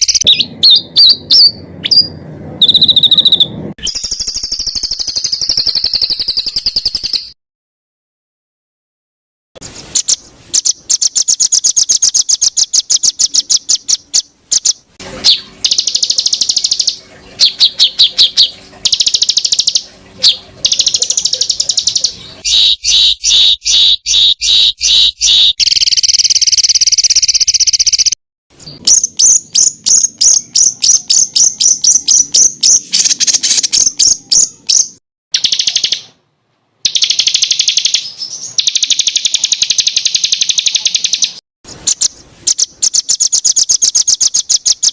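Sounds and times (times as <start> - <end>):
songbird rapid high chirping: 0.0 - 7.4, 9.7 - 36.1, 36.8 - 44.9.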